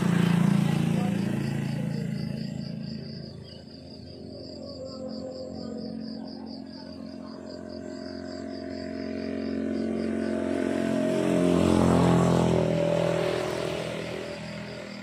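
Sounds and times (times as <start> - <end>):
vehicle driving past: 0.0 - 15.0
crickets chirping: 0.2 - 15.0.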